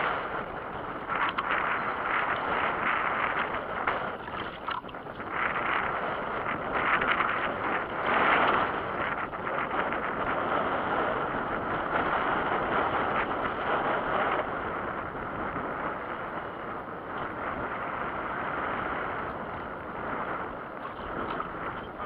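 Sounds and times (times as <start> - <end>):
water chop washing around boat: 0.0 - 22.0
wind buffeting microphone: 0.0 - 22.0.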